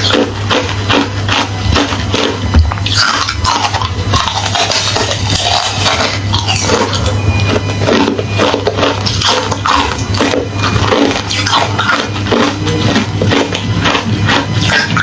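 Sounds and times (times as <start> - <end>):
ice being chewed: 0.0 - 15.0
steady low hum: 0.0 - 15.0.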